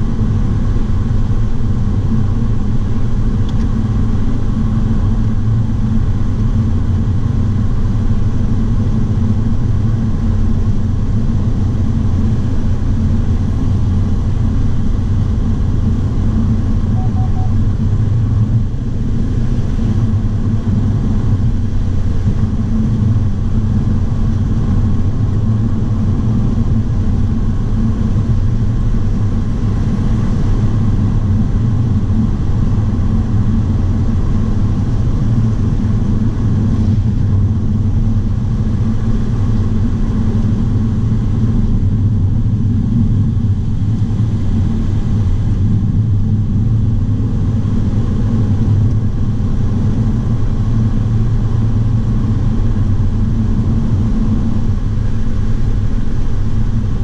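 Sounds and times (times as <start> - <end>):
car engine rumble from cabin: 0.0 - 57.0
wind and tyre noise: 0.0 - 57.0.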